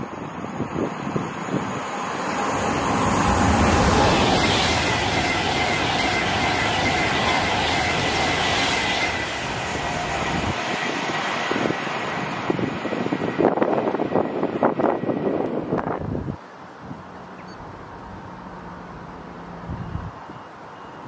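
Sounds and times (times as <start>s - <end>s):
electric train passing: 0.0s - 21.0s
high train whine: 0.0s - 21.0s.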